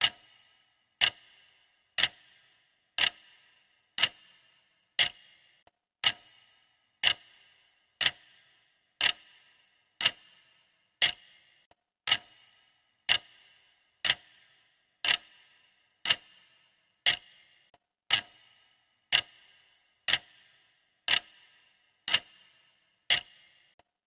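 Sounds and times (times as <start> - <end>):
clock ticking: 0.0 - 23.8.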